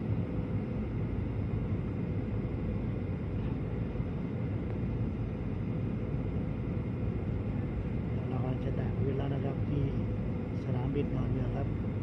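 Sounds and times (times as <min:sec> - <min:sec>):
airliner engine rumble in cabin: 0:00.0 - 0:12.0.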